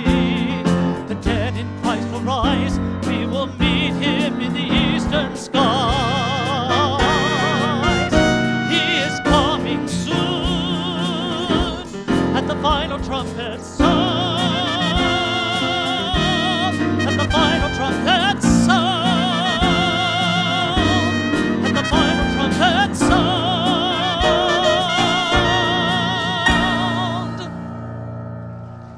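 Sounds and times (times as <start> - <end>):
drum hits: 0.0 - 27.2
instrumental gospel band music: 0.0 - 28.0.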